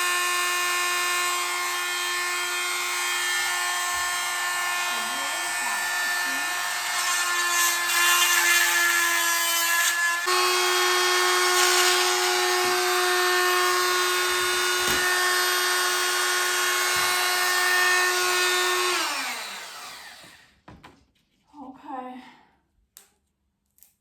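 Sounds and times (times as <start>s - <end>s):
oscillating multi-tool whining: 0.0s - 20.5s.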